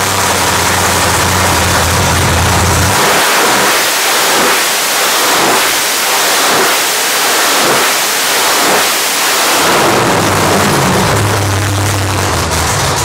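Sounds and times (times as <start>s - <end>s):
loud steady rushing hiss: 0.0s - 12.3s.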